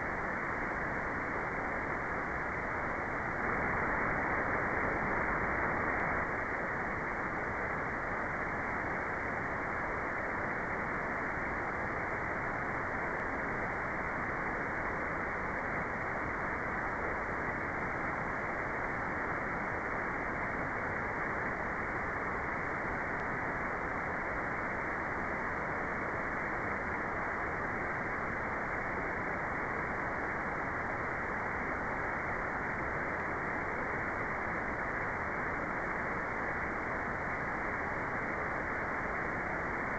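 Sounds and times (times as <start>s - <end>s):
muffled white noise hiss: 0.0s - 39.9s.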